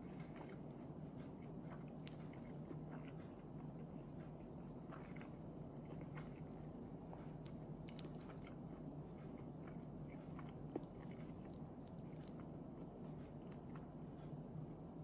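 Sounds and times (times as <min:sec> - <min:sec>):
soft chewing: 0:00.0 - 0:15.0
steady background hum: 0:00.0 - 0:15.0.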